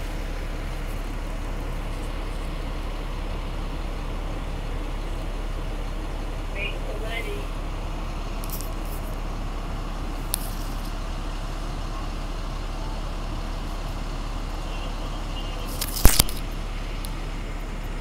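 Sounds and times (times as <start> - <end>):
bus road noise: 0.0 - 18.0
diesel engine running: 0.0 - 18.0.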